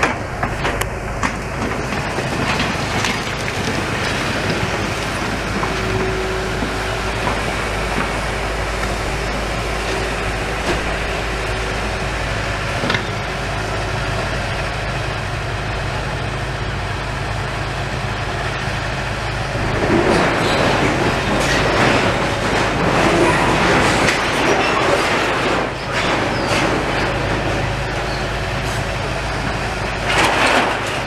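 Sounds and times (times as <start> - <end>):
heavy engine running: 0.0 - 31.0
rumbling and rattling: 0.0 - 31.0.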